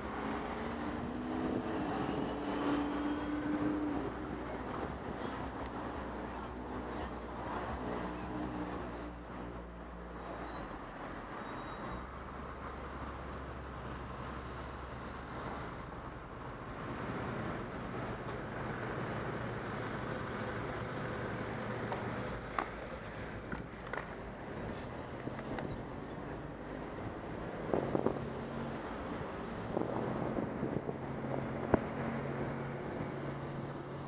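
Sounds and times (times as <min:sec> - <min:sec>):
car engines and passing cars: 0:00.0 - 0:34.0.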